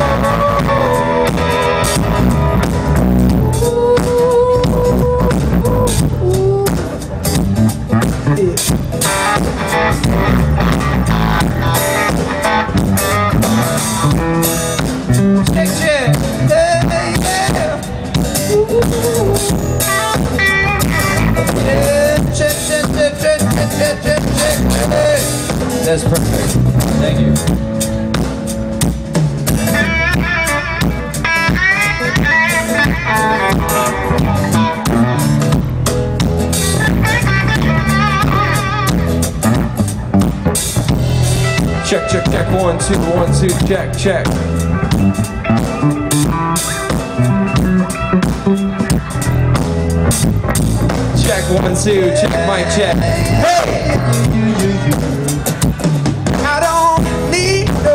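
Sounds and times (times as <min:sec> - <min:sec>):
loud rock music: 0:00.0 - 0:57.9.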